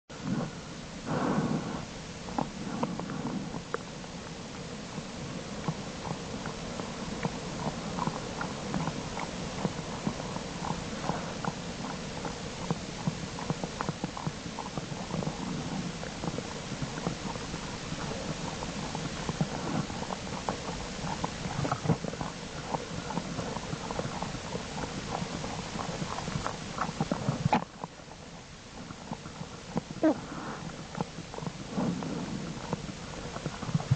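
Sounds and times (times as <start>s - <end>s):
bear cubs purring hum: 0.1s - 33.9s
rustling: 0.2s - 33.9s.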